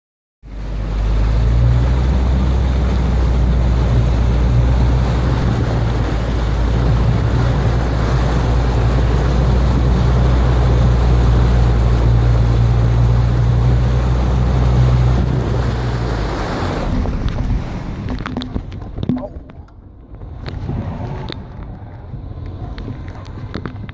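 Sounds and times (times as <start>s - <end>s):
water rushing and splashing: 0.4s - 23.9s
car engine humming: 0.5s - 23.9s.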